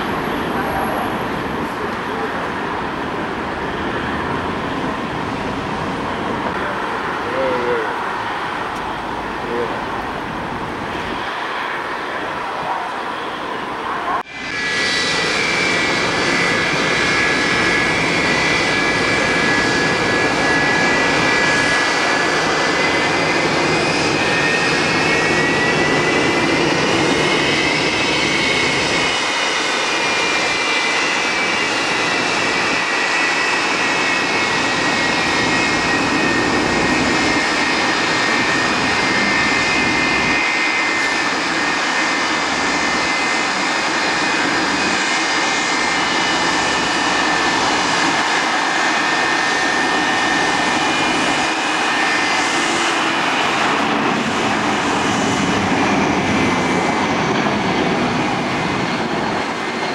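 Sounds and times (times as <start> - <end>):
jet engines at taxi power: 0.0 - 59.9.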